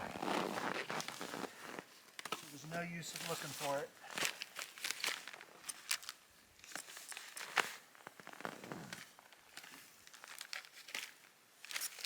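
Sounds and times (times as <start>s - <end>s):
crinkling and crackling: 0.0s - 12.0s.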